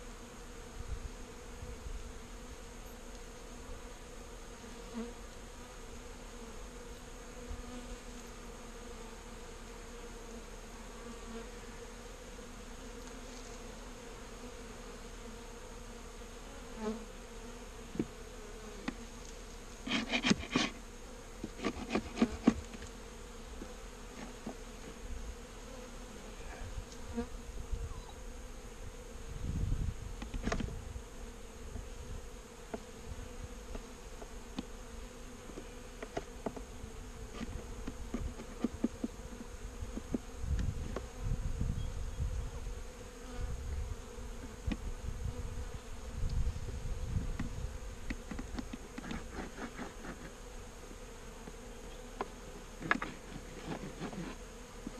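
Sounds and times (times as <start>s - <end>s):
honeybees buzzing: 0.0s - 54.9s.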